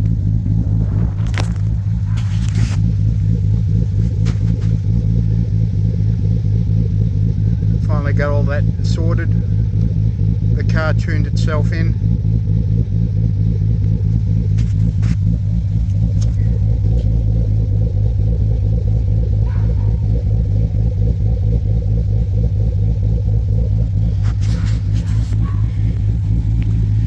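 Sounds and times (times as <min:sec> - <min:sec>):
engine idling with exhaust hum: 0:00.0 - 0:27.0.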